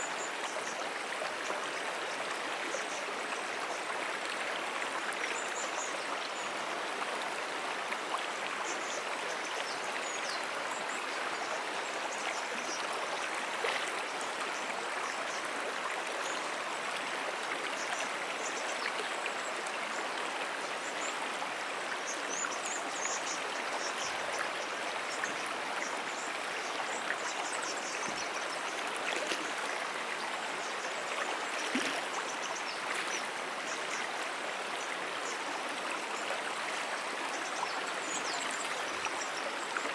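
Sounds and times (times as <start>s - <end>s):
brook water flowing: 0.0s - 39.9s.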